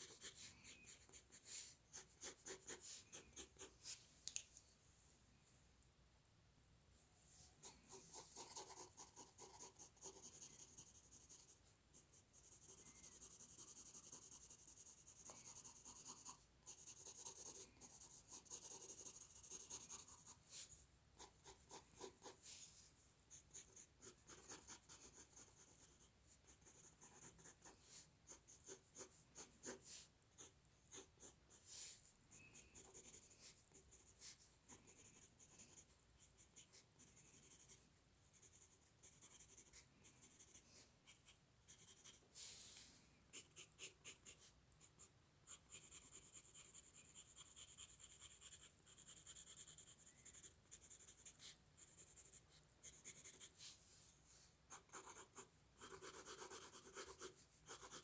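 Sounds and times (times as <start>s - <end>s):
pencil scratching on paper: 0.0s - 4.0s, 7.6s - 42.6s, 43.3s - 53.9s, 54.7s - 58.0s.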